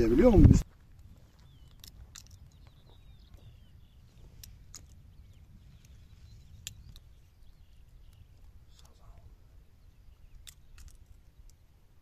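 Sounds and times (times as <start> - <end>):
faint bird chirps: 1.1 - 11.8.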